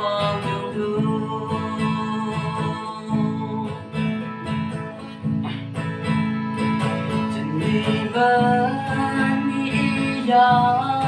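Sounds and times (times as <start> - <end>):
guitar playing a repeating rhythm: 0.0 - 11.0
person singing: 0.0 - 11.0.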